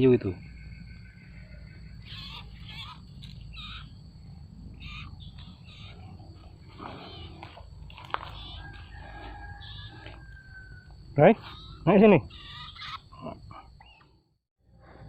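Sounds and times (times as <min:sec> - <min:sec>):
bird chirping: 0:00.0 - 0:14.3
low background rumble: 0:00.4 - 0:13.8.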